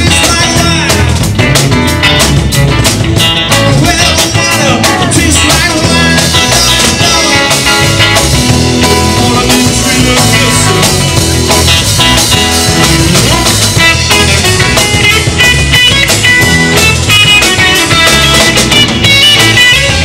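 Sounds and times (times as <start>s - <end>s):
drums keeping a steady beat: 0.0s - 20.0s
rock band playing: 0.0s - 20.0s.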